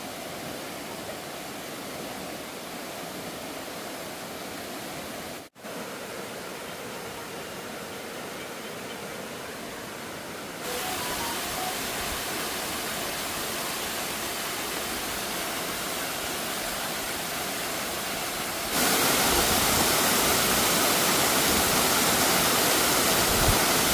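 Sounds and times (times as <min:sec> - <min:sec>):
waterfall rushing: 0:00.0 - 0:08.3, 0:09.1 - 0:23.9.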